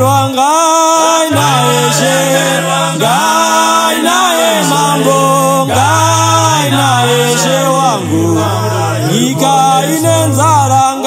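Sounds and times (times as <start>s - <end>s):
vocal group singing in harmony: 0.0s - 11.0s
held low bass note: 1.4s - 10.8s.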